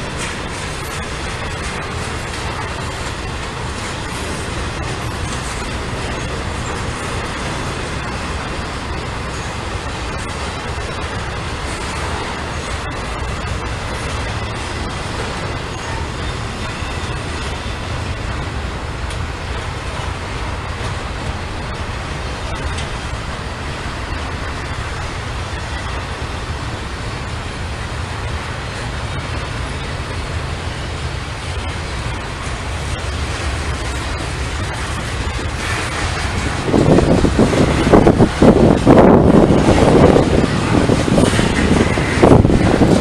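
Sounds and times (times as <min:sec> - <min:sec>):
heavy vehicles rumbling past: 0:00.0 - 0:43.0.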